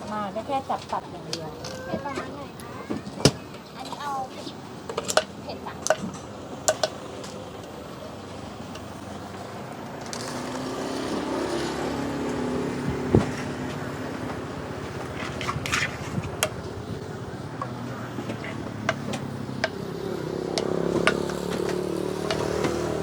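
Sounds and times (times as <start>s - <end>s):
street background noise: 0.0s - 23.0s
vehicle passing: 0.0s - 23.0s.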